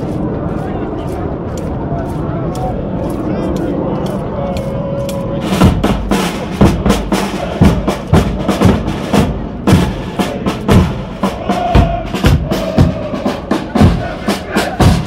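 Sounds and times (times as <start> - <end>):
marching drums beating: 0.0 - 15.0.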